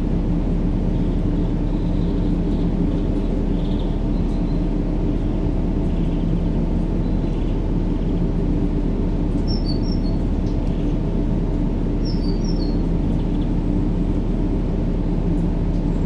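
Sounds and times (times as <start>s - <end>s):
low rumbling white noise: 0.0s - 16.0s.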